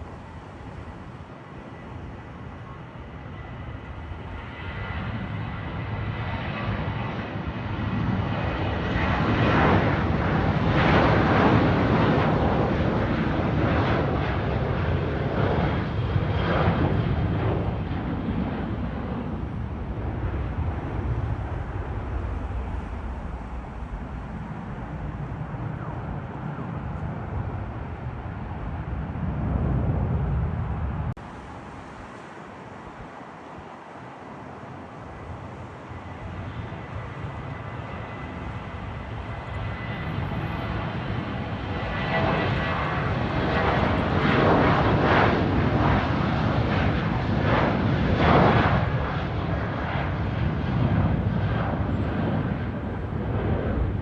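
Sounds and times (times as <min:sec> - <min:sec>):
airliner engines passing: 0:00.0 - 0:54.0.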